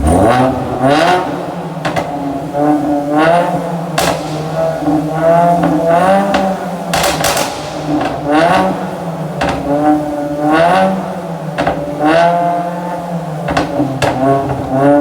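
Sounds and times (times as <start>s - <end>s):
car engine revving: 0.0s - 15.0s
exhaust pops and bangs: 0.0s - 15.0s.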